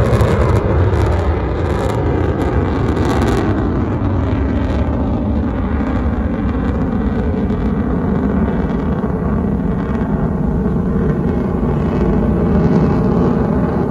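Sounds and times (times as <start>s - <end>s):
military jet flying overhead: 0.0s - 13.9s.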